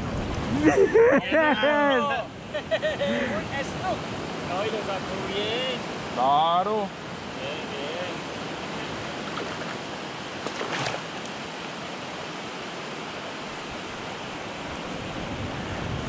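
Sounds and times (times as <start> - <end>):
shallow surf washing: 0.0 - 16.0.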